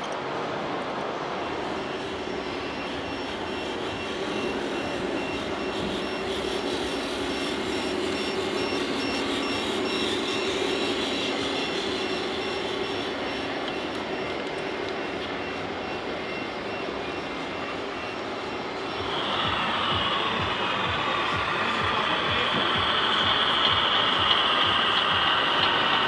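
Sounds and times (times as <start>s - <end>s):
toy truck mechanical hum: 0.0s - 26.0s
rapid high beeps: 1.2s - 26.0s.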